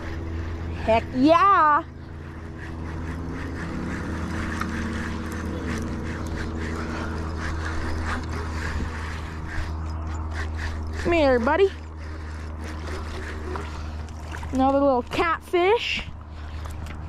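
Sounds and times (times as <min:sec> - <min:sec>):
fishing reel whirring: 0:00.0 - 0:17.0
steady low hum: 0:00.0 - 0:17.0.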